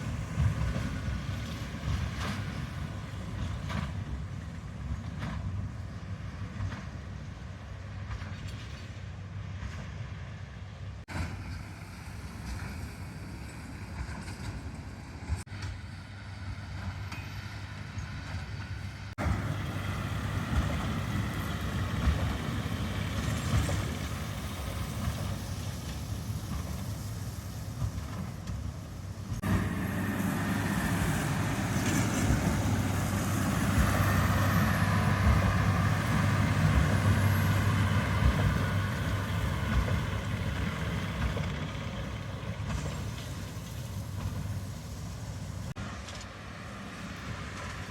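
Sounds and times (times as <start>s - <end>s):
heavy farm machinery engine running: 0.0s - 47.9s.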